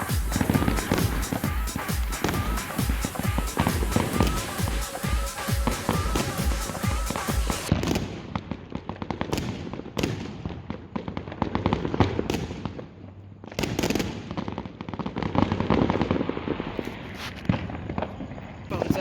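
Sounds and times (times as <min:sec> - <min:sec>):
fireworks bangs: 0:00.0 - 0:12.9, 0:13.5 - 0:19.0
fireworks crackling and popping: 0:00.0 - 0:19.0.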